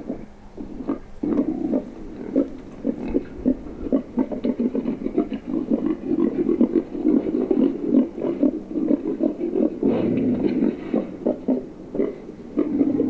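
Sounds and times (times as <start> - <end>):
hog grunts and growls: 0.6 - 13.0.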